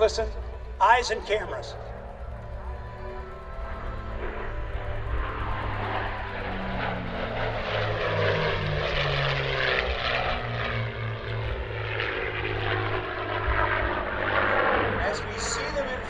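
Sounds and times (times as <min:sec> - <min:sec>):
propeller planes flying past: 0:00.0 - 0:16.0.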